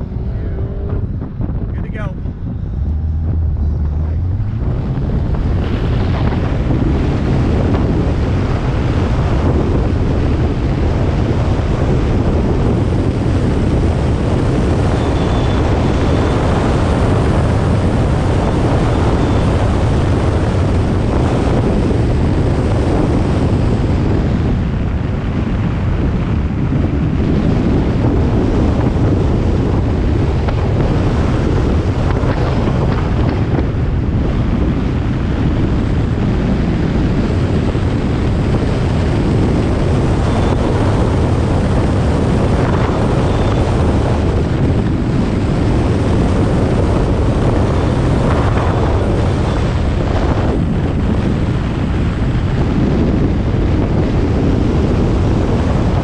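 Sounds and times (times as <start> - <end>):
car running: 0.0 - 56.0
wind buffeting microphone: 0.0 - 56.0.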